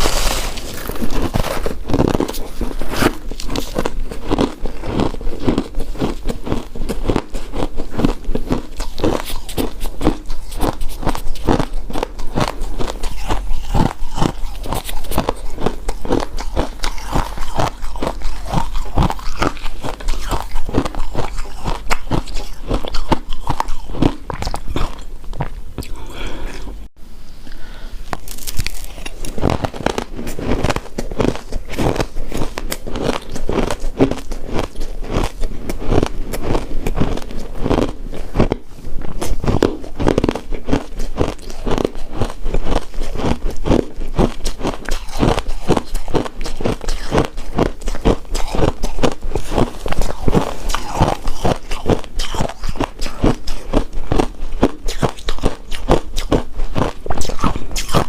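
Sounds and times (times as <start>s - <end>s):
chewing and crunching ice: 0.0s - 26.7s, 28.1s - 58.0s.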